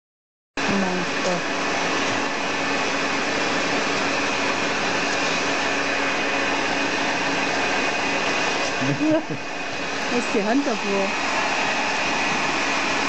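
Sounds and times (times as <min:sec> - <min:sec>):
hair dryer blowing air: 0:00.6 - 0:13.0.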